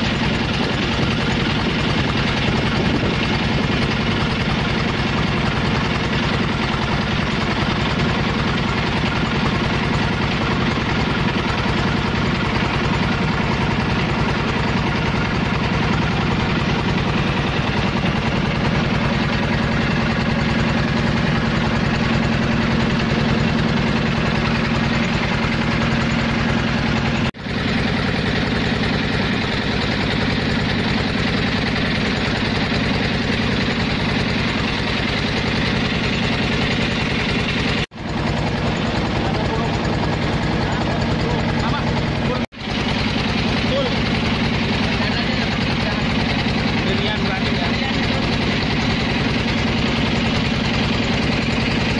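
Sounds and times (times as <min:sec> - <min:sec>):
boat engine running: 0:00.0 - 0:51.9.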